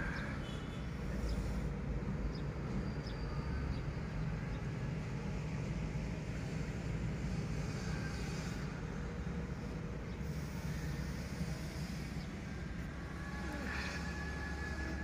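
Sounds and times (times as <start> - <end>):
concrete mixer diesel engine running: 0.0 - 15.0.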